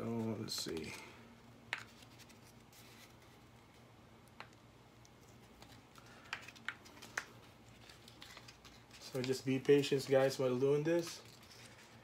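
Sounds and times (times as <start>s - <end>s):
sticker backing peeling crackles: 1.7s - 12.0s.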